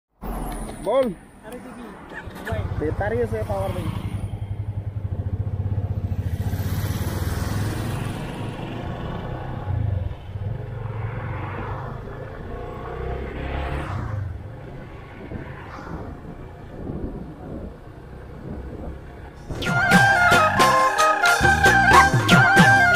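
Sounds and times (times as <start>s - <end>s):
motorcycle engine: 2.2s - 22.9s.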